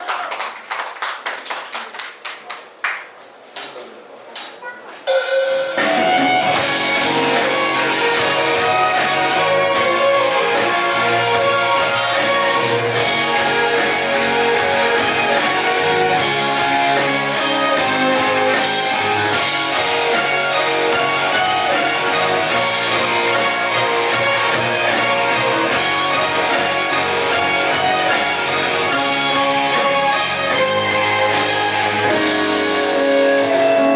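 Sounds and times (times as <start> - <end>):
steady drum beat: 5.0 - 33.6
guitar: 5.1 - 33.9.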